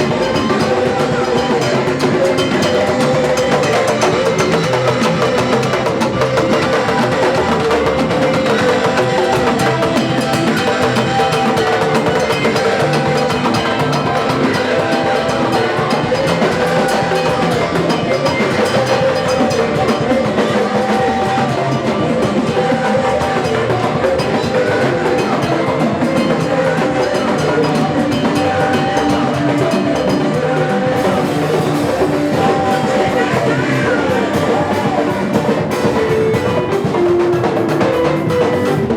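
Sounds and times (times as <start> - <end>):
drum kit steady beat: 0.0 - 38.9
held melodic tones: 0.0 - 38.9.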